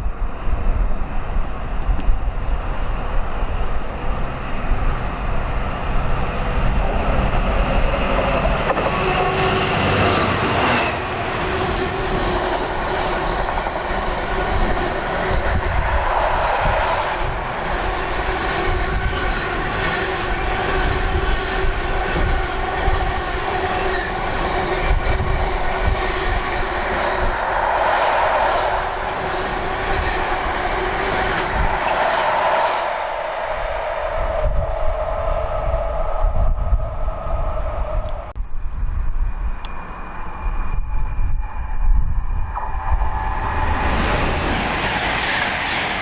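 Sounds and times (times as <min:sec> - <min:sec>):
train running with humming tones: 0:00.0 - 0:46.0
wind rumbling on microphone: 0:00.0 - 0:46.0.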